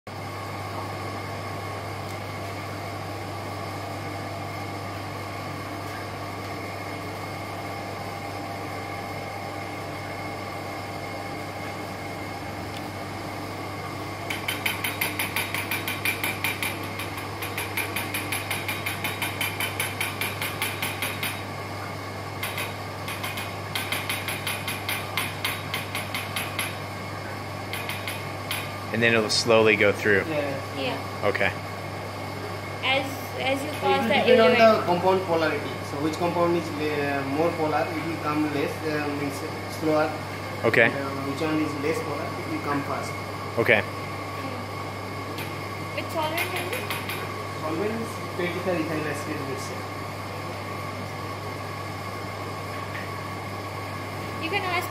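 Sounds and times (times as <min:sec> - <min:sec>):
steady low hum: 0:00.1 - 0:54.9.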